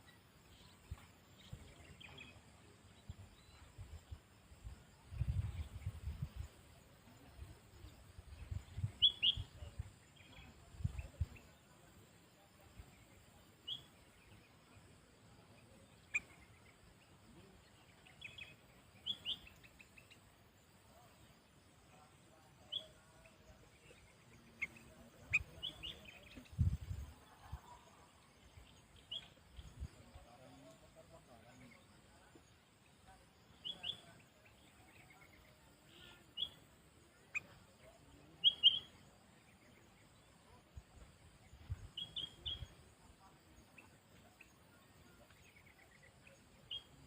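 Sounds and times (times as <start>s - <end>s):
bird chirping: 0.0s - 47.0s.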